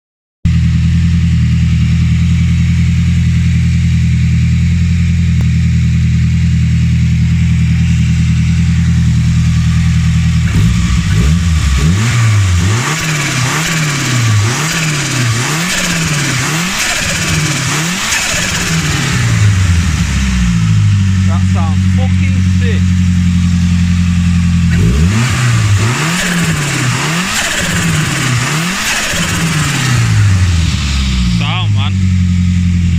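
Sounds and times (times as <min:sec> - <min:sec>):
car engine idling and revving: 0:00.5 - 0:32.9.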